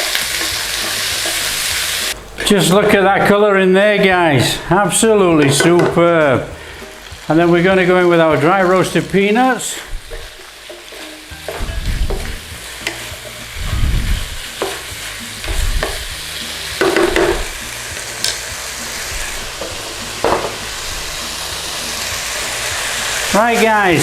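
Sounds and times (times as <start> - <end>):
utensil scraping against pan: 0.0 - 7.0, 7.7 - 23.4
food sizzling in a pan: 0.0 - 24.0.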